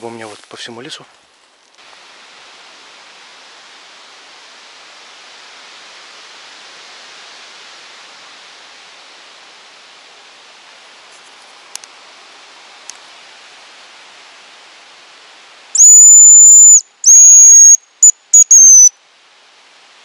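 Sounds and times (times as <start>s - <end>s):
forest ambience hiss: 0.0s - 20.0s.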